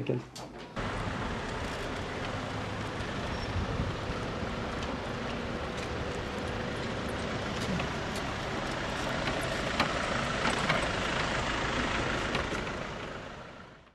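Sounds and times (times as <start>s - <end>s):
outdoor street noise: 0.0s - 13.9s.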